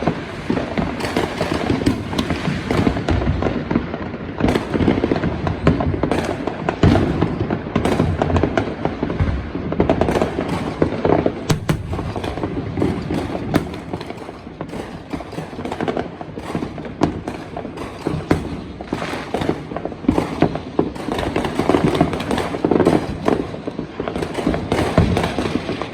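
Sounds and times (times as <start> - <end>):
fireworks crackling and banging: 0.0 - 25.9.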